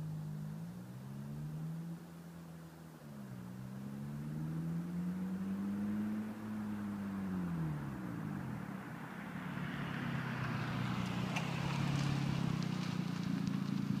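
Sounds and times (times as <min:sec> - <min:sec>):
car exhaust drone: 0:00.0 - 0:14.0.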